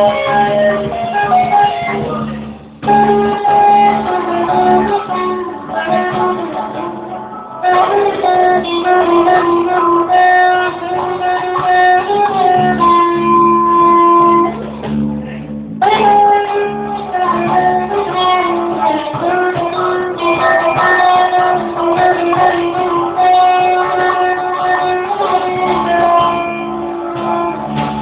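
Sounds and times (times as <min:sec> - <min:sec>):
band playing guitar-led song: 0:00.0 - 0:28.0.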